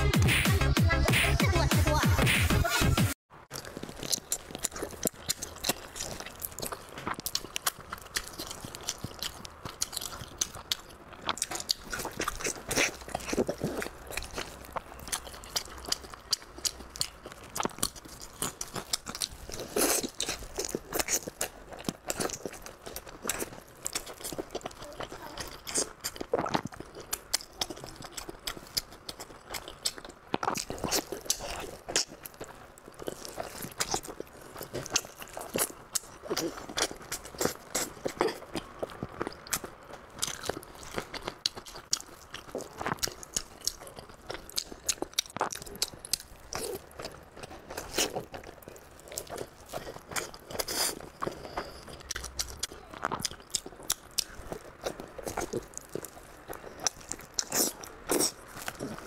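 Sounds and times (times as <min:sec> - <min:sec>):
person chewing wet food: 0:03.5 - 0:59.0.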